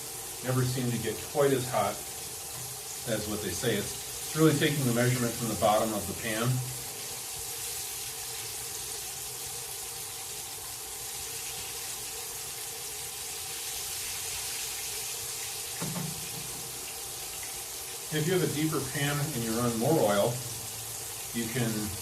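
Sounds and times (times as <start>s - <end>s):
fish frying in oil: 0.0s - 22.0s.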